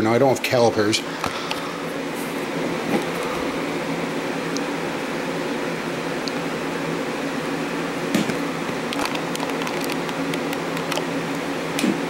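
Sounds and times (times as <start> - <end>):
steady room hum: 0.0 - 12.0.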